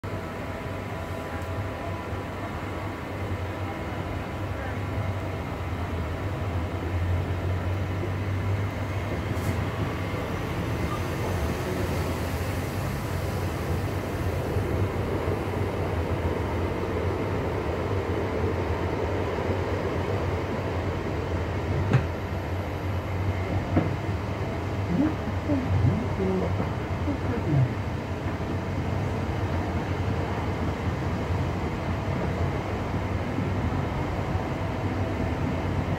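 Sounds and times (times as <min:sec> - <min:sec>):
train running gear rumble: 0:00.1 - 0:35.9.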